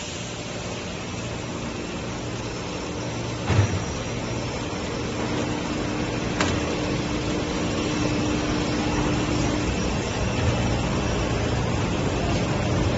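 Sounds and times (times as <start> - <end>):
machine mechanical hum: 0.0 - 12.9.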